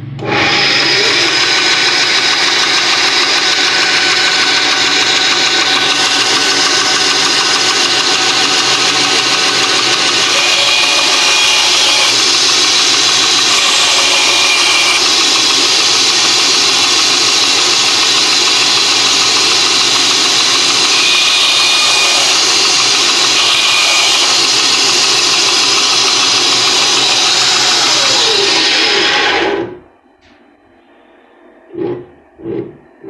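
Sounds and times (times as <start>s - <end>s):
roller bearings whirring: 0.0s - 29.9s
bandsaw cutting wood: 0.2s - 29.8s.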